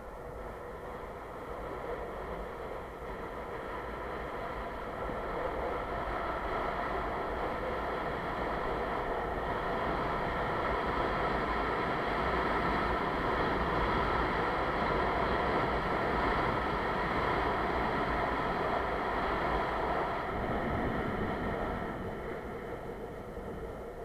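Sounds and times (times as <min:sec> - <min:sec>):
wind on microphone: 0:00.0 - 0:24.0
skateboard wheels rolling on asphalt: 0:00.3 - 0:24.0.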